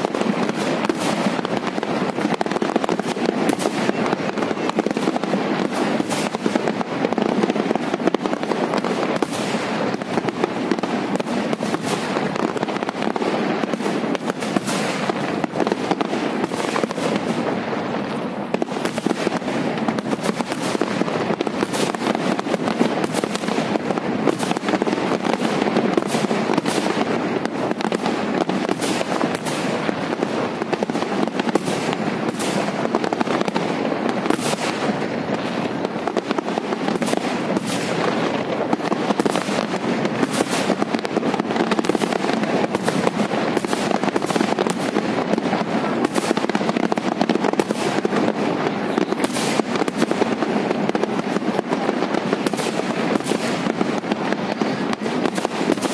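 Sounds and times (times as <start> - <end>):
firework shells bursting: 0.0 - 55.9.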